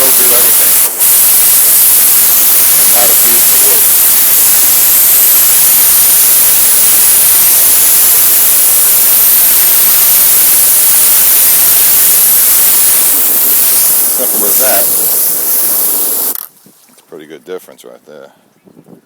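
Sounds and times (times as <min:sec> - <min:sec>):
pressure washer spraying water: 0:00.0 - 0:16.5.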